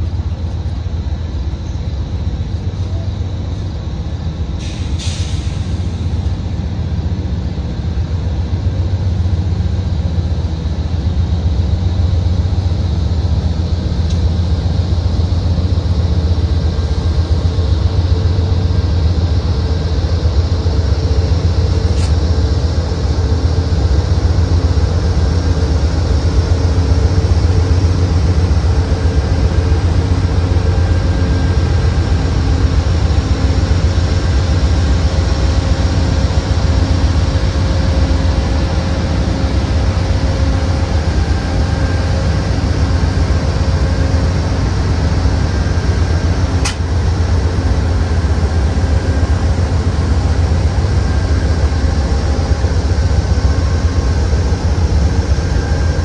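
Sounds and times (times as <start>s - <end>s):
diesel locomotive drone: 0.0s - 56.0s.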